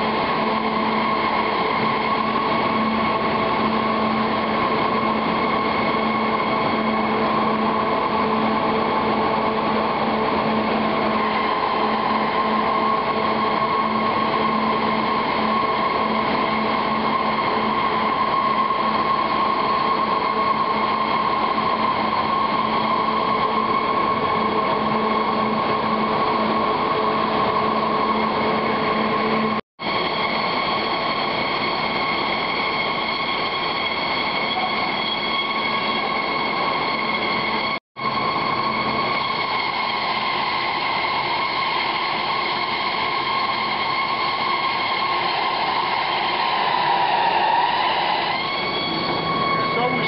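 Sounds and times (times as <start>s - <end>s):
factory machinery drone: 0.0s - 50.0s
high machine whine: 0.0s - 50.0s.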